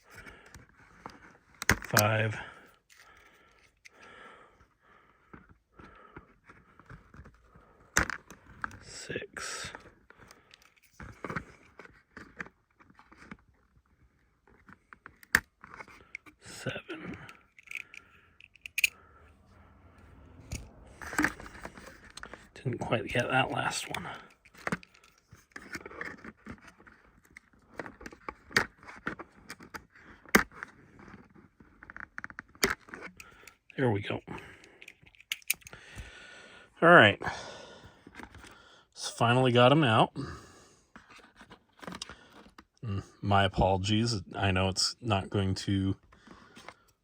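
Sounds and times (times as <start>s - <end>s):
small handling clicks and rustles: 0.0s - 36.1s, 37.8s - 38.6s, 40.8s - 42.8s, 43.6s - 47.0s.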